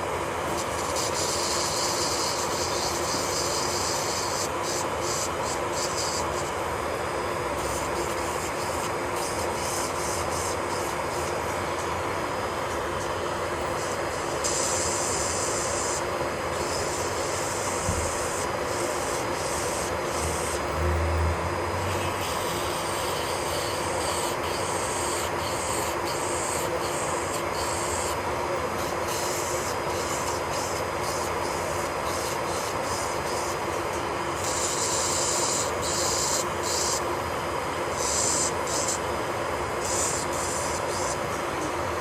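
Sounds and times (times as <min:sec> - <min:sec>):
electric nail drill running: 0:00.0 - 0:42.0.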